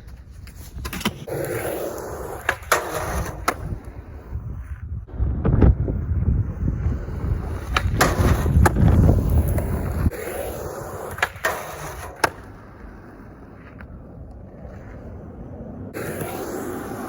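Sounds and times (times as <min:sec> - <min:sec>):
skateboard clacking: 0:00.0 - 0:04.4, 0:06.7 - 0:17.0
skateboard wheels rumbling on pavement: 0:00.0 - 0:17.0.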